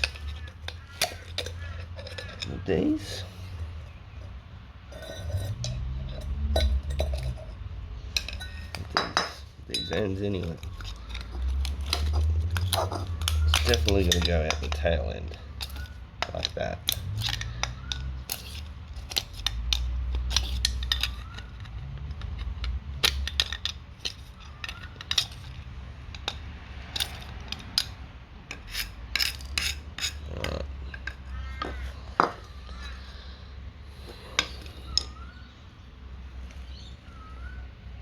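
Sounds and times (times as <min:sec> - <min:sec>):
hand tools clinking on metal: 0:00.0 - 0:03.3, 0:04.9 - 0:07.5, 0:08.1 - 0:33.0.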